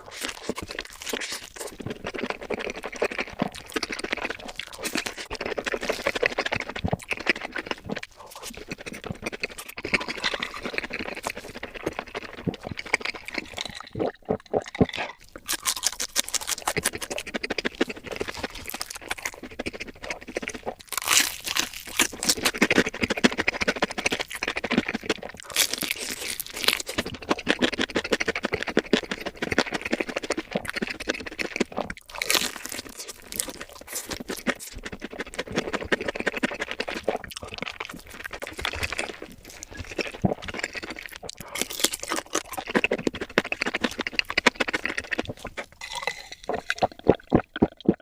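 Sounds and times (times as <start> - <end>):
person chewing crispy food: 0.0 - 48.0.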